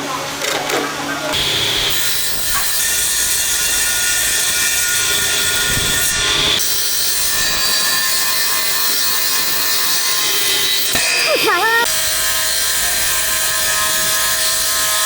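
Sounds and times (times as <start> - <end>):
power tool working wood: 1.4 - 15.0.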